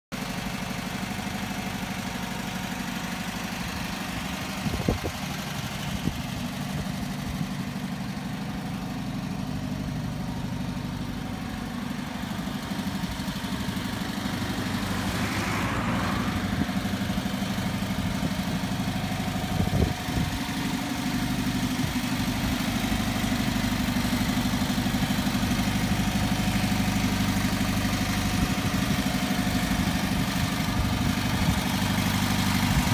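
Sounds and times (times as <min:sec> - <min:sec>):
van engine idling: 0:00.1 - 0:32.9.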